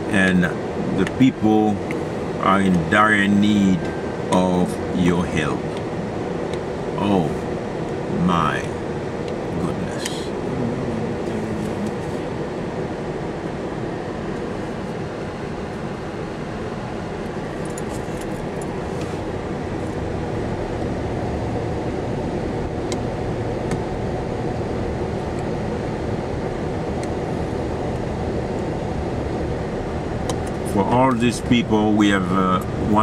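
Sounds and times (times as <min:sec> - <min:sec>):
vehicle engine and road rumble: 0:00.0 - 0:33.0.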